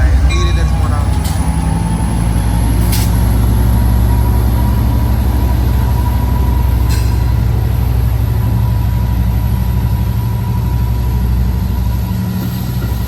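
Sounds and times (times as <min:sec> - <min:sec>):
diesel locomotive humming: 0:00.0 - 0:13.0.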